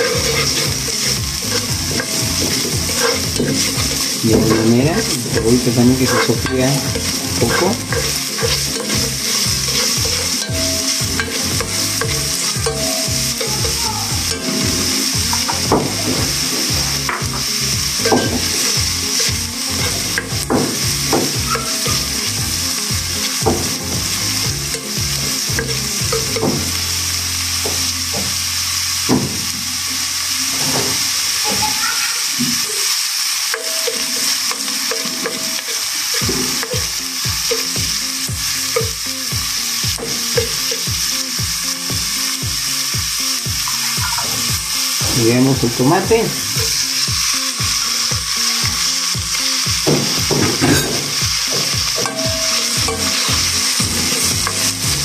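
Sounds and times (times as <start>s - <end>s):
spatula scraping and tapping pan: 0.0s - 28.4s, 33.5s - 55.0s
onion sizzling in hot oil: 0.0s - 55.0s.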